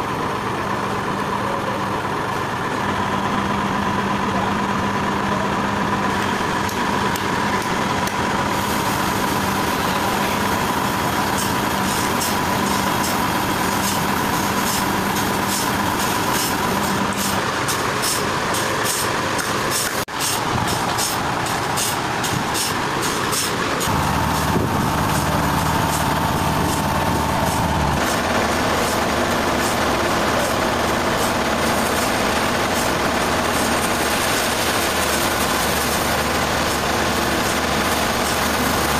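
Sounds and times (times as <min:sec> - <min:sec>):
sawmill machinery hum: 0:00.0 - 0:38.9.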